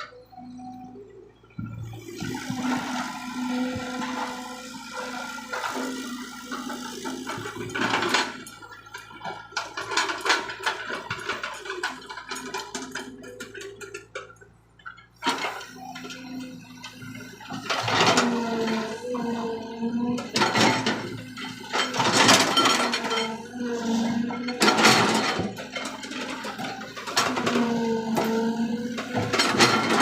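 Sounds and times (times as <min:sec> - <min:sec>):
excavator engine running: 0:00.0 - 0:30.0.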